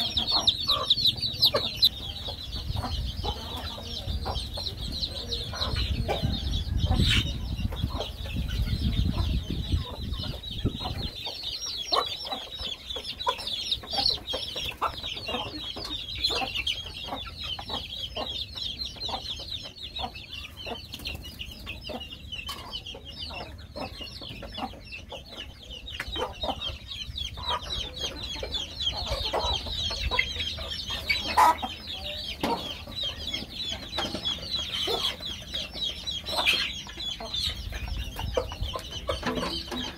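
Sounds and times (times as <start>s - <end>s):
chicks cheeping and clucking: 0.0s - 39.9s.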